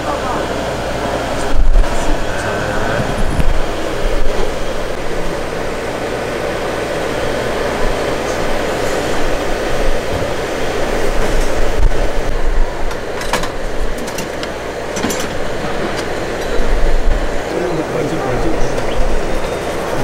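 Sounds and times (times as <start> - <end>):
low rumbling hum with hiss: 0.0 - 20.0.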